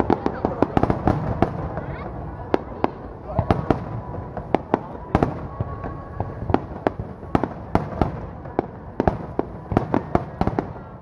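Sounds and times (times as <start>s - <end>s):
rumble of firework bursts: 0.0s - 11.0s.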